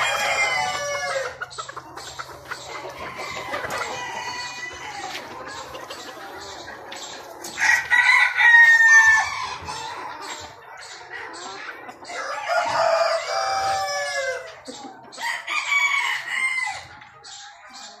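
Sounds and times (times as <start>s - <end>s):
roosters crowing: 0.0s - 17.4s
hens clucking: 0.0s - 18.0s.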